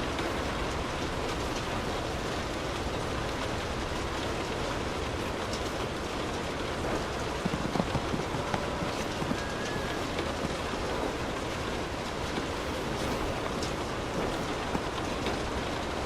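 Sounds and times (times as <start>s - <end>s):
louder sharper raindrops: 0.0s - 16.0s
light rain patter on car: 0.1s - 16.0s.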